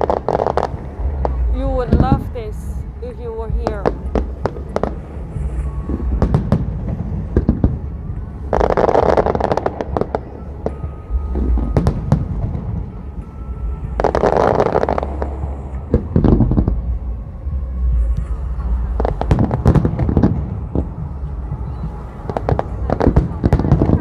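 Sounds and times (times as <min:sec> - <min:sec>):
fireworks bursting with sharp bangs: 0:00.0 - 0:17.1, 0:18.2 - 0:24.0.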